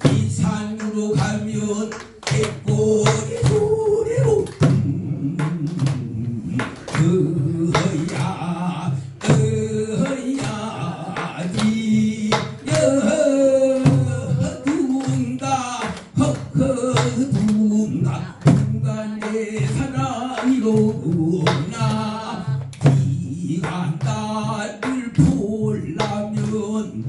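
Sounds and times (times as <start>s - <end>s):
audience clapping along: 0.0s - 26.8s
man singing into microphone: 0.0s - 27.0s.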